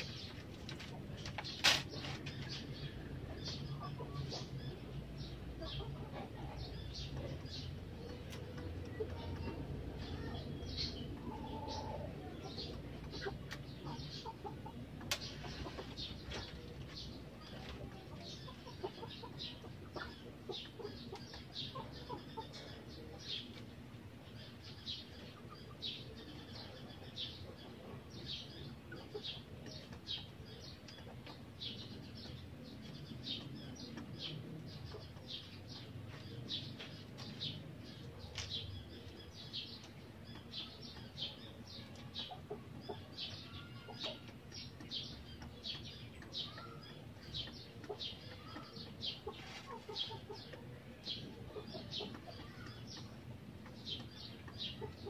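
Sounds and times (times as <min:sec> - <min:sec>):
birds chirping: 0:00.0 - 0:55.0
chicken clucking: 0:00.0 - 0:55.0.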